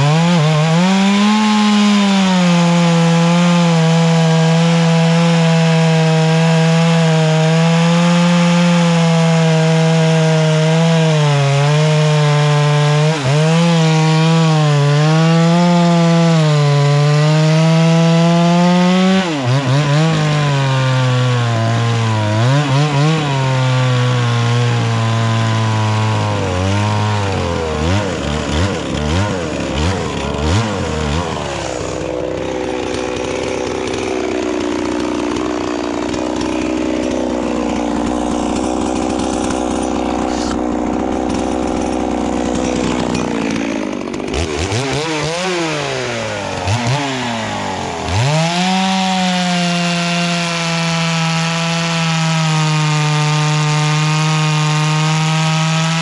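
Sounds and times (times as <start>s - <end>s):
chainsaw cutting and revving: 0.0s - 56.0s.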